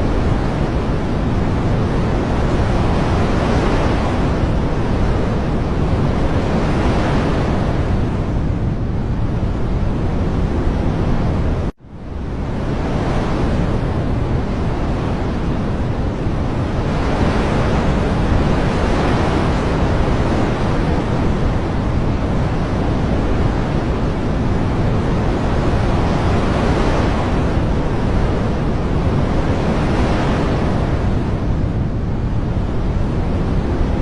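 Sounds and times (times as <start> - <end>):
dense rushing of rain or surf: 0.0 - 34.0.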